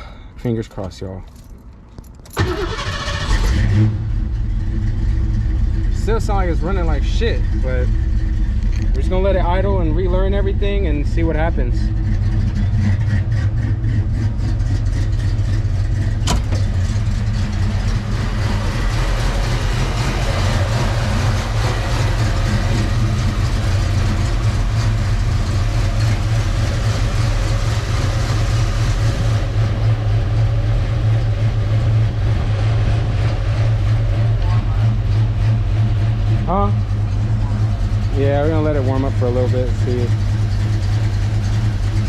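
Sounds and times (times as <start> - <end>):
car engine idling roughly: 4.1 - 42.0.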